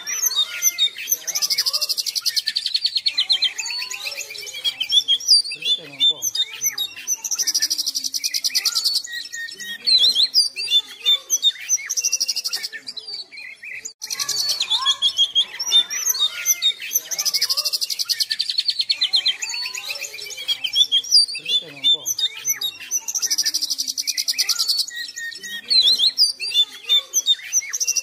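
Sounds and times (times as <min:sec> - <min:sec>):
bird singing whistles and chirps: 0:00.0 - 0:28.0.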